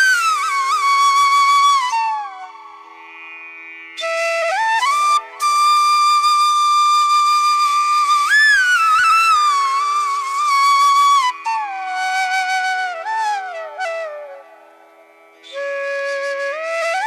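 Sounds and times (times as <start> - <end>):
flute-like wind melody: 0.0 - 2.8, 4.0 - 17.0.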